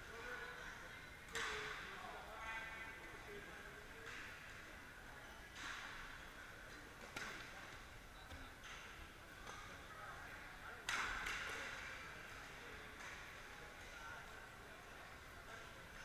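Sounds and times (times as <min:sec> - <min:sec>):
crowd chatter: 0:00.0 - 0:16.0.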